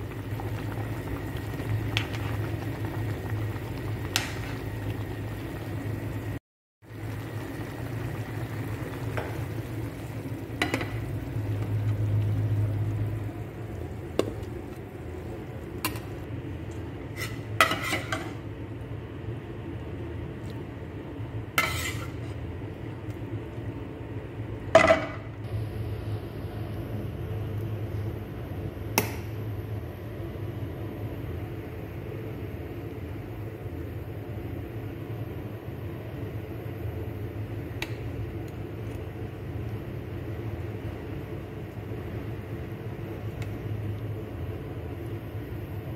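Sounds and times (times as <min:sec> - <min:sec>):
pot simmering: 0:00.0 - 0:45.9.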